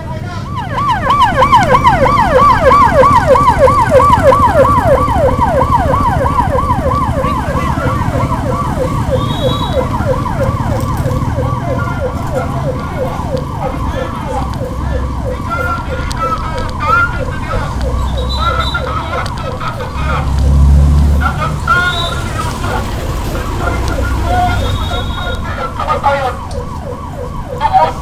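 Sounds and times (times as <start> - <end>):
electronic siren yelping: 0.0 - 28.0
motorcycle engines running: 0.0 - 28.0.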